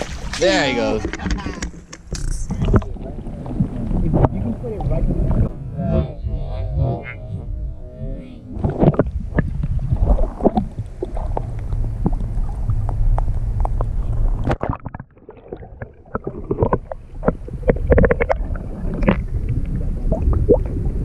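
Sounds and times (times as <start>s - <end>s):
low rumble: 0.0s - 21.0s
muffled water sloshing: 0.0s - 21.0s.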